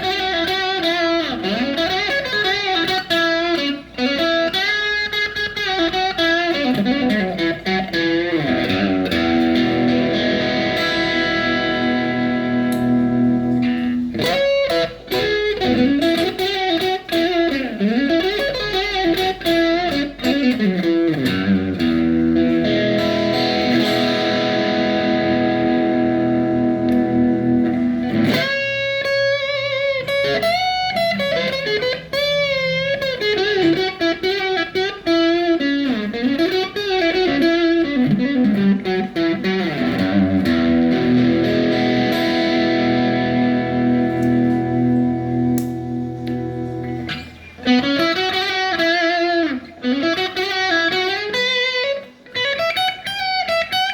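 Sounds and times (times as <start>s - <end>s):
electric guitar lead lines: 0.0s - 53.9s
ringing guitar chords: 0.0s - 53.9s.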